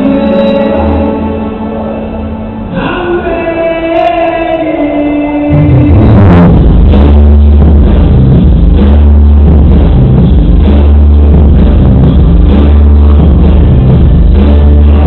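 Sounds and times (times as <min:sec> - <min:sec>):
loud distorted bass-heavy music: 0:00.0 - 0:15.0.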